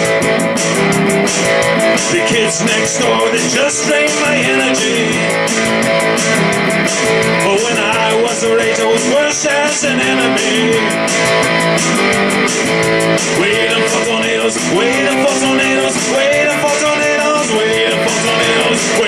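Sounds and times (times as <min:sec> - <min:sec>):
electric guitar strumming: 0:00.0 - 0:19.0.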